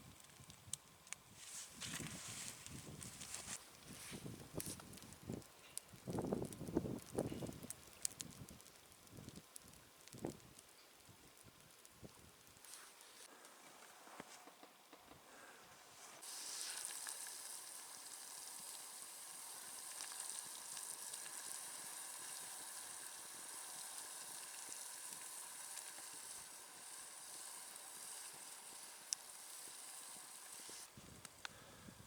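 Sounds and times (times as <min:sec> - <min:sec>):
steady hiss with faint crackling: 0:00.0 - 0:32.0.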